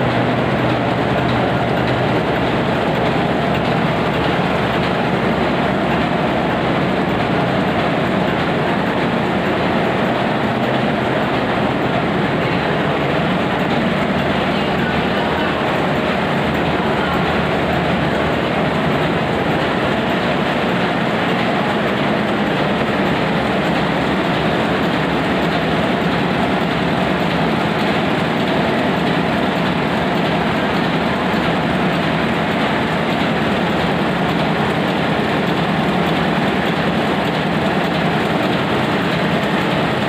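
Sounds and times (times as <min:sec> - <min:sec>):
marine diesel engine running: 0:00.0 - 0:40.0.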